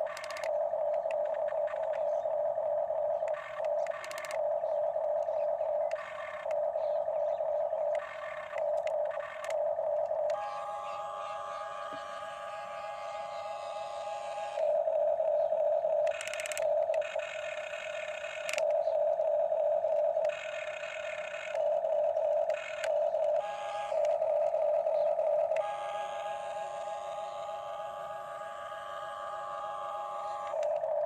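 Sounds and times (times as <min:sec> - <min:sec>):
faint steady hum: 0:00.0 - 0:31.0
toy excavator motors whining: 0:00.0 - 0:31.0.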